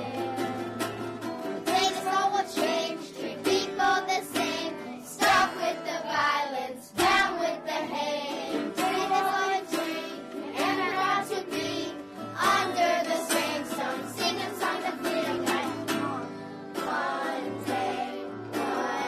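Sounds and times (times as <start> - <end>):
children singing: 0.0 - 0.9, 1.6 - 19.0
strummed string accompaniment: 0.0 - 19.0.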